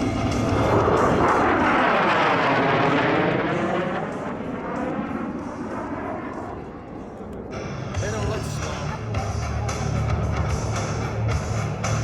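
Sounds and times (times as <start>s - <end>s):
military jet engine roar: 0.0s - 11.8s.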